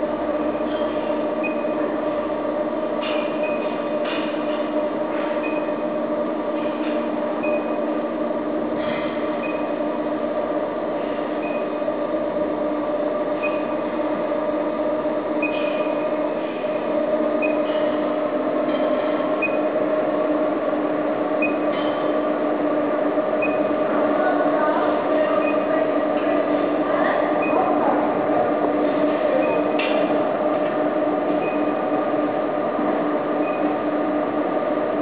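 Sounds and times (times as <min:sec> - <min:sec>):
ceiling fan droning hum: 0:00.0 - 0:35.0.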